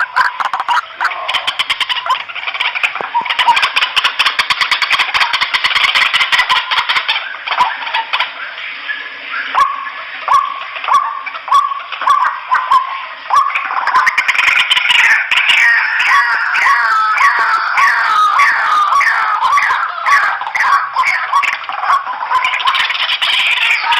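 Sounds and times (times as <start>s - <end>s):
waterhens calling: 0.0s - 23.9s.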